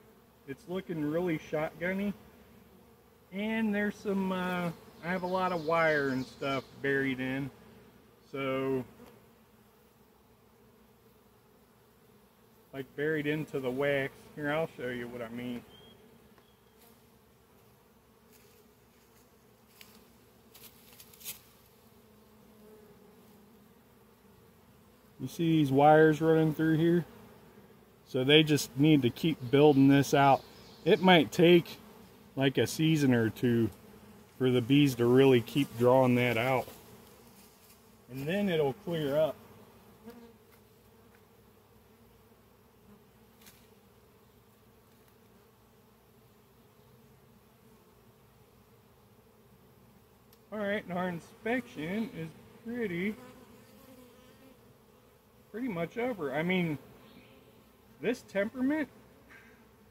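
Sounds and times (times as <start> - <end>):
bees humming: 0.0 - 59.9
honeybees buzzing: 0.0 - 59.9.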